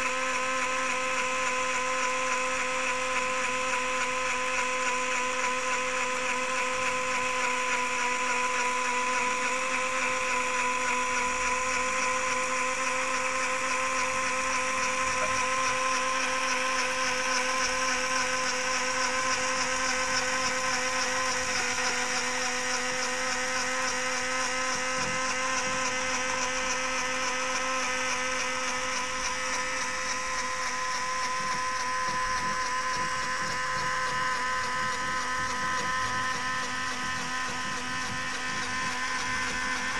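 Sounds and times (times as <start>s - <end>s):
toy electric motor whining: 0.0s - 39.9s.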